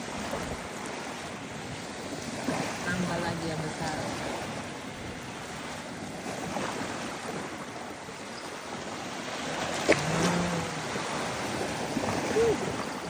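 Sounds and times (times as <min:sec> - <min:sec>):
small waves washing on sand: 0:00.0 - 0:13.0.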